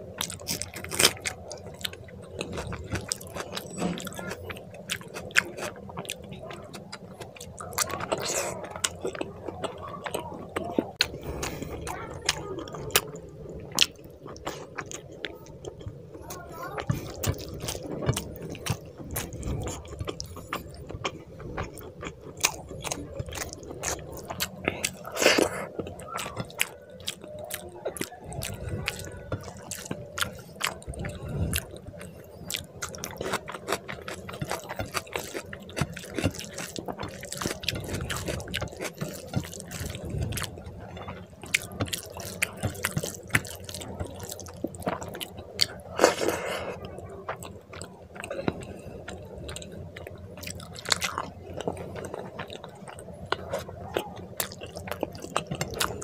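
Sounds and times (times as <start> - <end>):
wet eating squelches: 0.0 - 56.0.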